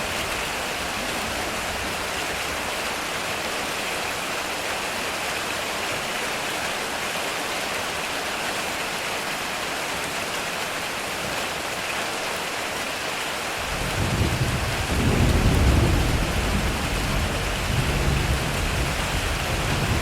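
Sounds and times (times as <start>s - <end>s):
heavy rain on a metal roof: 0.0s - 20.0s.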